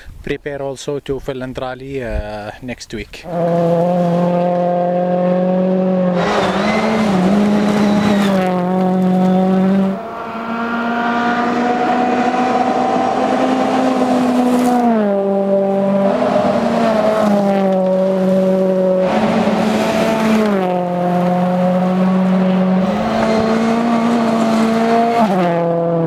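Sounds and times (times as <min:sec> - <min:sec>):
rally car engine revving: 0:03.2 - 0:26.0.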